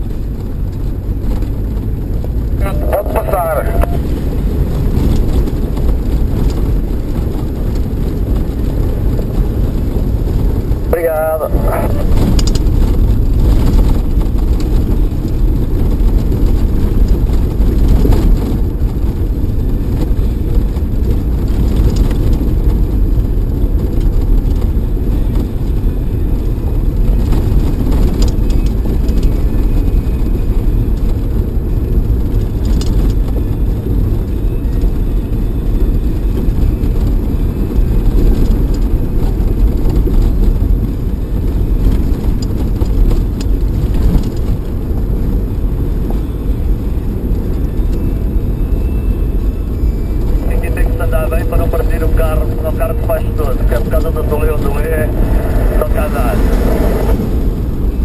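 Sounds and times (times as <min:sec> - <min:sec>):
engine and tyres on gravel: 0:00.0 - 0:58.0.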